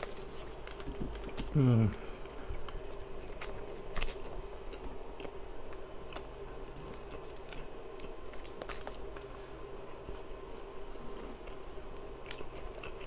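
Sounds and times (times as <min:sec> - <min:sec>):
man chewing food: 0:00.0 - 0:13.0
steady low hum: 0:00.0 - 0:13.0.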